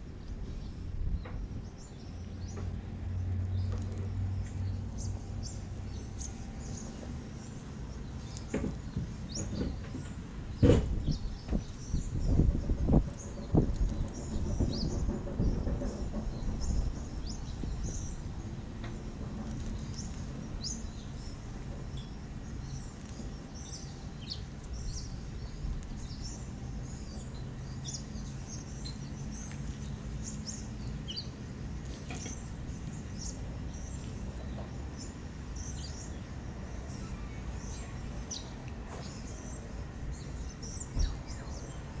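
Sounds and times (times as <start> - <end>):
low background rumble: 0.0 - 42.0
small birds chirping: 0.0 - 42.0.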